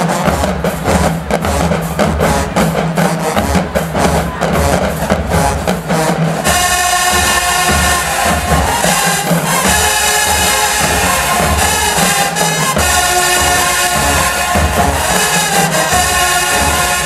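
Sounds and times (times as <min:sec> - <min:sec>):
dance music with drum beat: 0:00.0 - 0:17.0.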